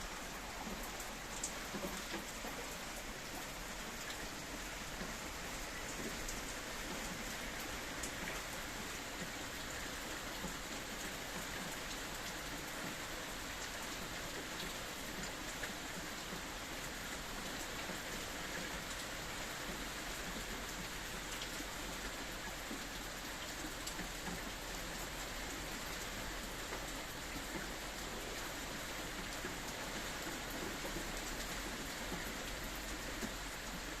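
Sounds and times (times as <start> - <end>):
raindrops ticking on surface: 0.0 - 34.0
steady rain hiss: 0.0 - 34.0.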